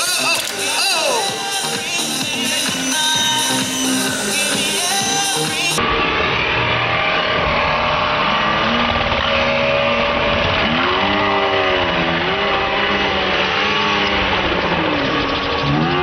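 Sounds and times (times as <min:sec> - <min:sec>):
model helicopter engine revving: 0:00.0 - 0:16.0.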